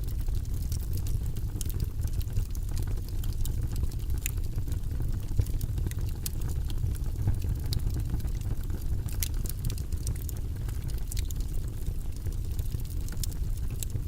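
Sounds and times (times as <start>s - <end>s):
fireplace fire low rumble: 0.0s - 14.0s
logs crackling and popping: 0.0s - 14.0s.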